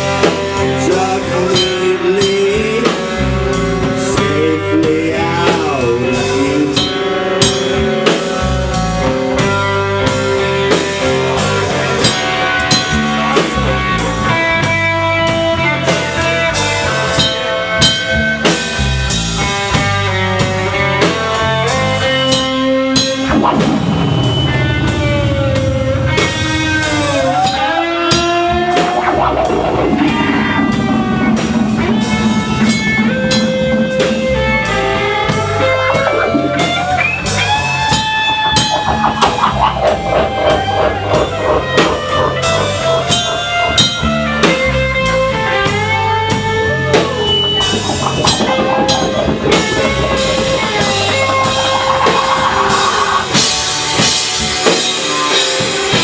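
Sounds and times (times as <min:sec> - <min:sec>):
bass line: 0:00.0 - 0:56.0
drum kit steady beat: 0:00.0 - 0:56.0
electric guitar with bent notes: 0:00.0 - 0:56.0.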